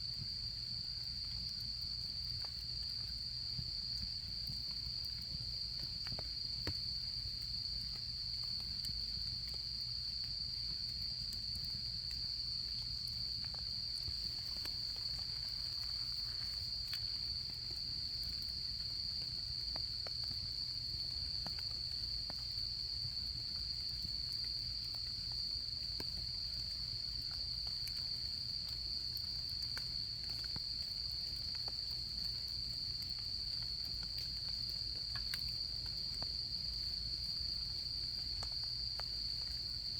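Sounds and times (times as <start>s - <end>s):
crickets trilling: 0.0s - 39.9s
campfire crackling: 0.4s - 39.9s.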